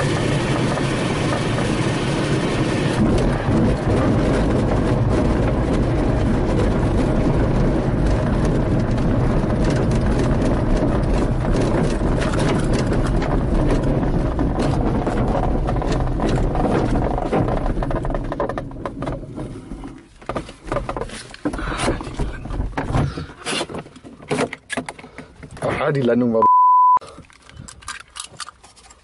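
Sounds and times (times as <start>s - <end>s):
wheel rumbling over ground: 0.0s - 24.3s
fuselage rattling and knocking: 0.0s - 25.8s.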